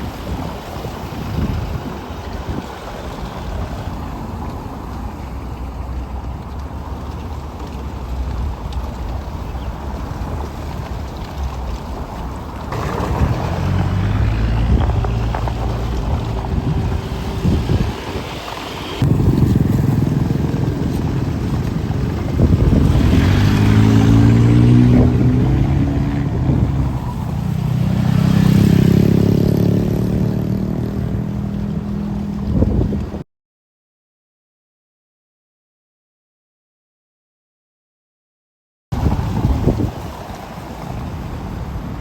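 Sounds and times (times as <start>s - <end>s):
heavy road traffic: 0.0s - 33.2s, 38.9s - 42.0s
wind buffeting microphone: 0.0s - 33.2s, 38.9s - 42.0s.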